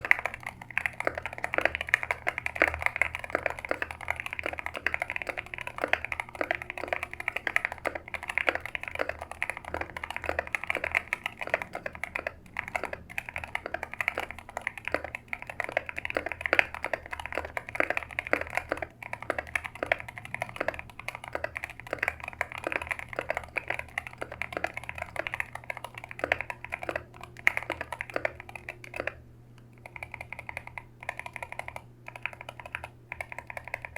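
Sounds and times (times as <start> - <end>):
keyboard key clacks: 0.0 - 29.2.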